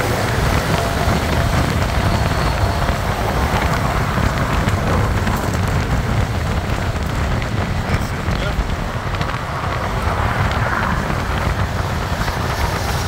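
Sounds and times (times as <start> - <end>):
road and traffic noise: 0.0 - 13.0
wind buffeting microphone: 0.0 - 13.0.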